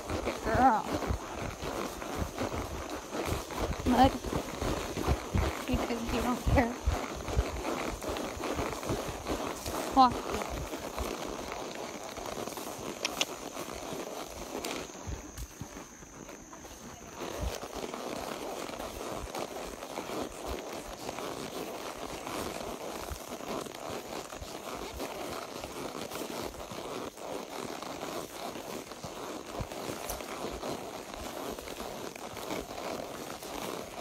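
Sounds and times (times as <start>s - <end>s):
rustling and crackling: 0.0s - 34.0s.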